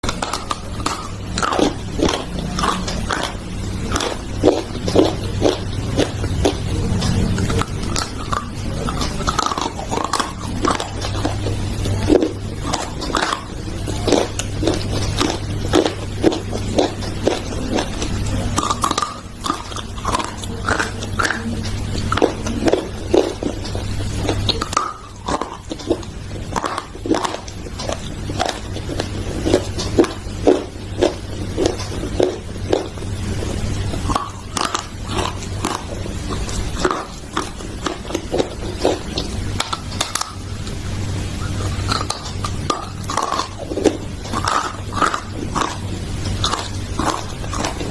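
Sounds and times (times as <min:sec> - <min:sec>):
crunchy food being chewed: 0:00.0 - 0:47.9
steady low hum: 0:00.0 - 0:47.9.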